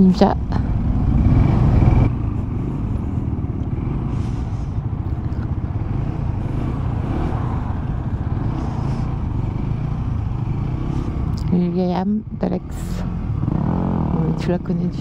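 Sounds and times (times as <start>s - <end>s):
motorcycle engines droning: 0.0s - 15.0s.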